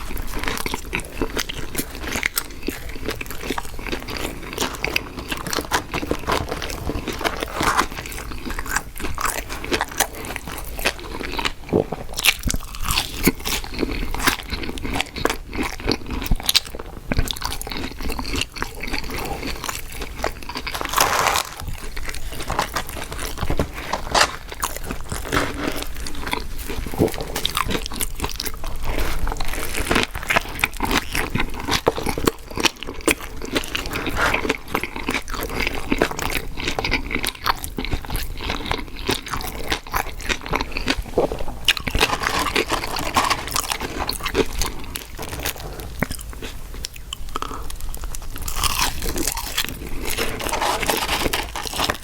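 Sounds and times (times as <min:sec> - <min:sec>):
person chewing crunchy food: 0:00.0 - 0:52.0.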